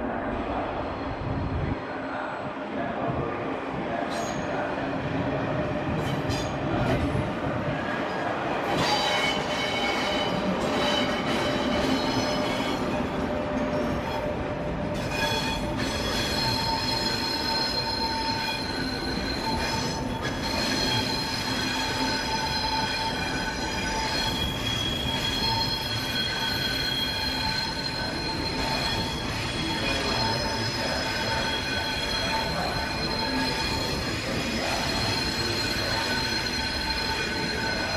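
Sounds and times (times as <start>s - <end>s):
moving train running noise: 0.0s - 37.9s
train wheels squealing: 6.0s - 7.0s, 8.1s - 37.9s.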